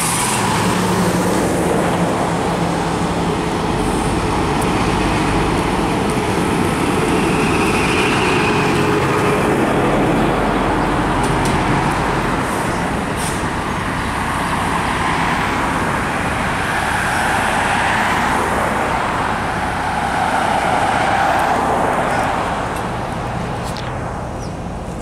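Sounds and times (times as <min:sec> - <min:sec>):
garbage truck diesel engine running: 0:00.0 - 0:20.1
cars passing: 0:00.0 - 0:25.0.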